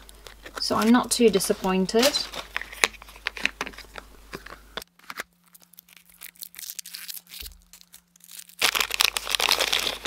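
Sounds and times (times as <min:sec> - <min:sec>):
paper wrapping crinkling: 0:00.0 - 0:10.0.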